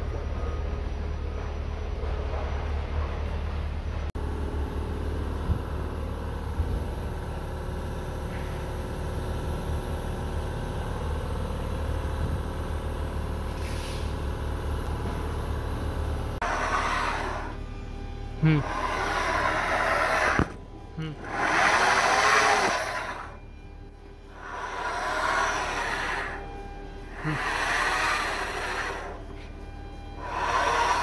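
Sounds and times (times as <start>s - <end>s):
vehicle engine running: 0.1s - 31.0s.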